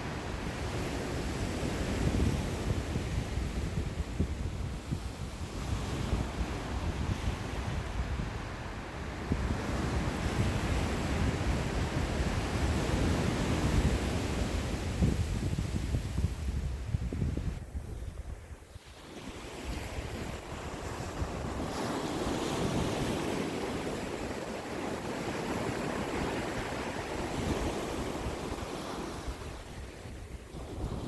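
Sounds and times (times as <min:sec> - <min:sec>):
sea waves washing ashore: 0:00.0 - 0:31.0
wind rumbling on microphone: 0:00.0 - 0:31.0.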